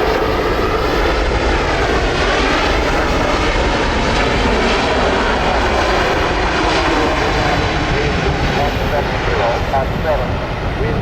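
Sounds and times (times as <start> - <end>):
airliner engines roaring: 0.0 - 11.0.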